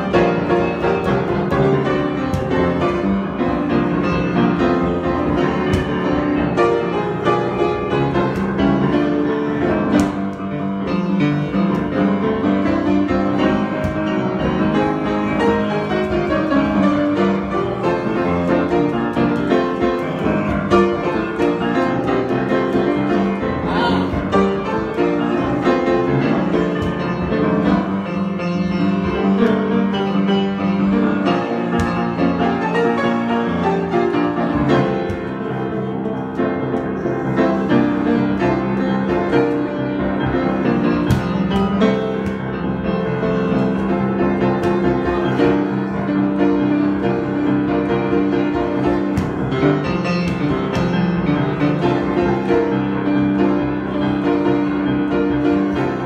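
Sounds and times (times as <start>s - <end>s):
solo grand piano: 0.0s - 56.0s.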